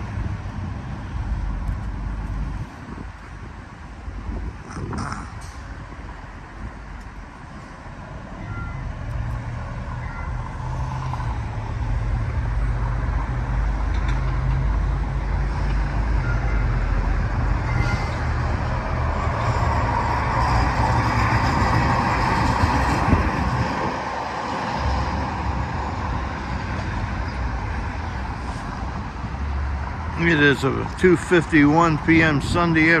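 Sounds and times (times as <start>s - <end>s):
heavy vehicle rumble: 0.0s - 33.0s
street traffic: 0.0s - 33.0s.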